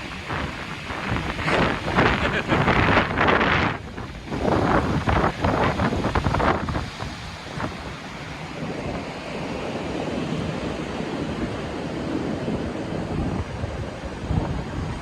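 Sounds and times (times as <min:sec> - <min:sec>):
wind buffeting microphone: 0:00.0 - 0:15.0
wind gusting through trees: 0:00.0 - 0:15.0.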